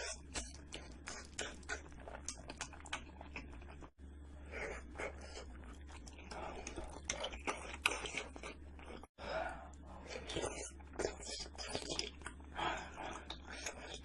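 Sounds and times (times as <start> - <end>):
person chewing and crunching food: 0.0 - 3.9, 4.6 - 14.0.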